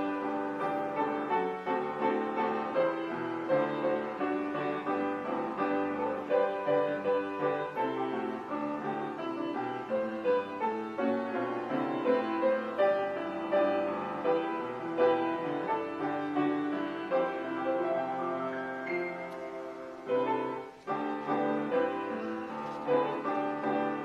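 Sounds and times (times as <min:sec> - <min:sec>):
instrumental piano music: 0:00.0 - 0:24.0.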